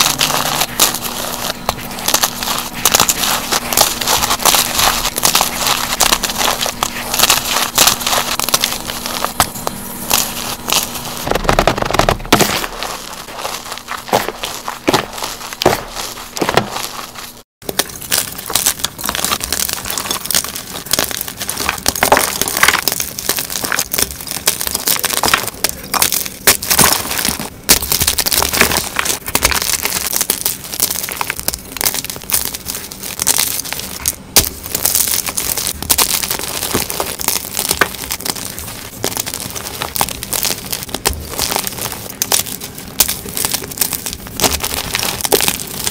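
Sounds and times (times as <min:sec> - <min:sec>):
hands crushing chalk: 0:00.0 - 0:45.9.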